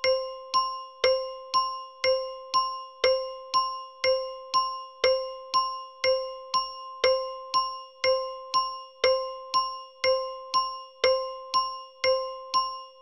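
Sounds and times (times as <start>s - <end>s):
bell timer ticking: 0.0s - 13.0s.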